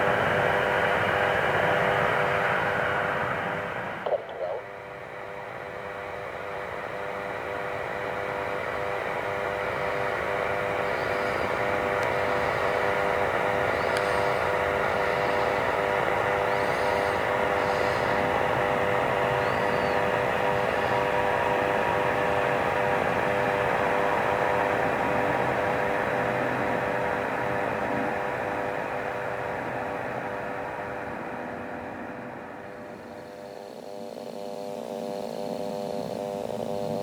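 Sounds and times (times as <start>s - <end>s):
aircraft engines running: 0.0s - 37.0s.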